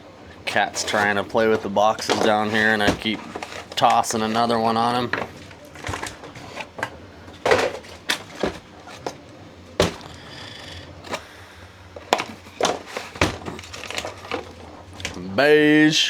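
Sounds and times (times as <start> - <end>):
cardboard boxes knocking and rustling: 0.4 - 15.4.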